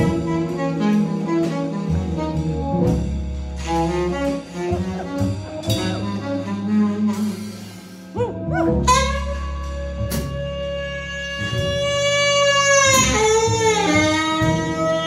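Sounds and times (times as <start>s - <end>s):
tenor saxophone melody: 0.0s - 2.9s, 3.6s - 15.0s
organ bass notes: 0.0s - 15.0s.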